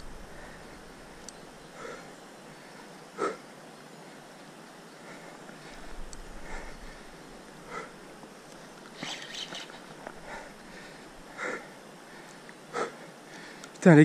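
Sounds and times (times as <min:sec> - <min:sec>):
faint steady hiss: 0:00.0 - 0:14.0
man breathing hard: 0:00.1 - 0:04.3, 0:05.0 - 0:08.8, 0:09.8 - 0:13.8.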